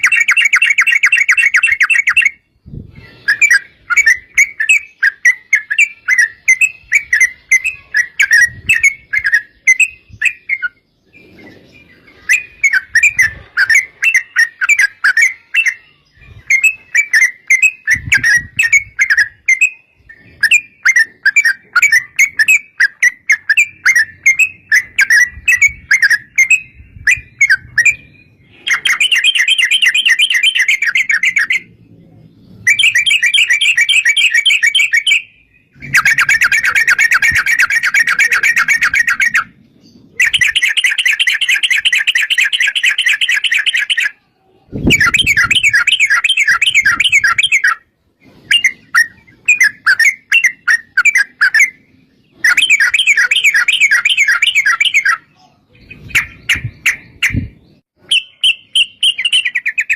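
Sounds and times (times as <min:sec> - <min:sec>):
bird chirps: 0:00.0 - 0:59.9.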